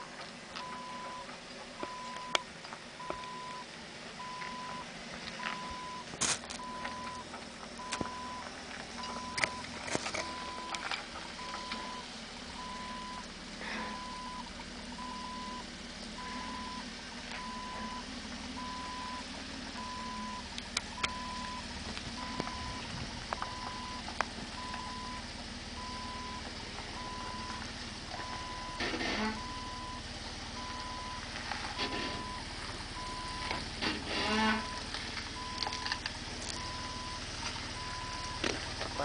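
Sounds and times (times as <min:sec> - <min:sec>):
vehicle engine running low: 0:00.0 - 0:39.0.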